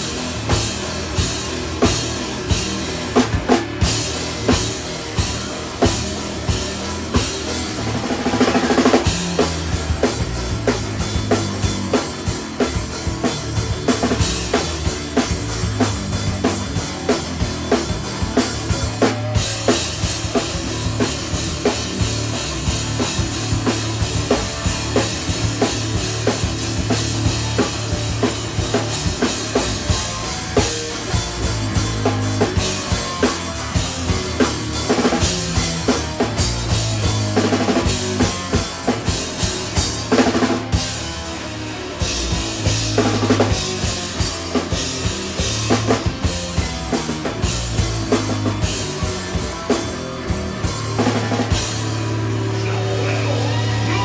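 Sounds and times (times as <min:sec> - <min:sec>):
drum kit kick and snare: 0:00.0 - 0:54.0
instrumental band playing live: 0:00.0 - 0:54.0.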